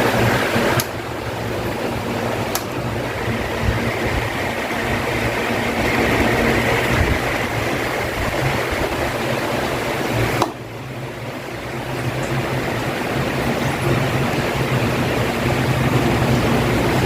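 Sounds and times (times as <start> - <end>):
electric fan whooshing hum: 0.0 - 17.0.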